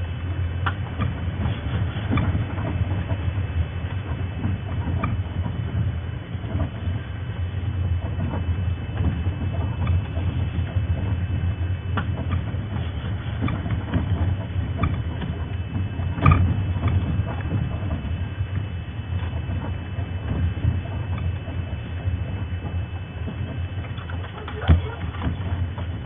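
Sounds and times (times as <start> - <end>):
vehicle engine rumble: 0.0 - 26.0
vehicle rattles and knocks: 0.0 - 26.0.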